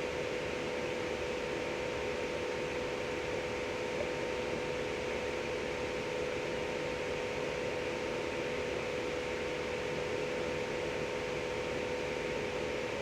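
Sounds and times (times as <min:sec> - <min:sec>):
constant machinery hum: 0:00.0 - 0:13.0.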